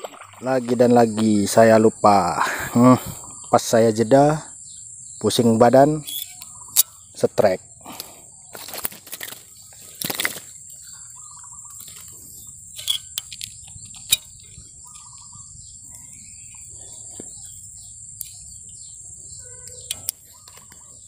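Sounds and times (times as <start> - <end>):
high insect drone: 0.0 - 21.0
bird trills: 2.4 - 8.7, 9.4 - 13.2, 13.8 - 21.0.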